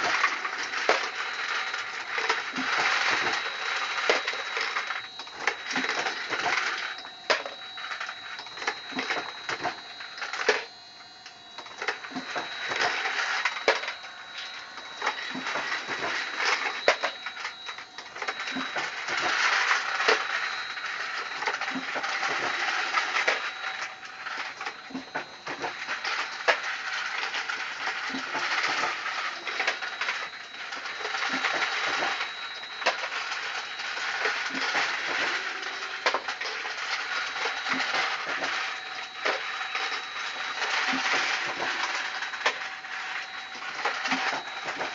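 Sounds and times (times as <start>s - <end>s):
steady high whine: 0.0s - 44.9s.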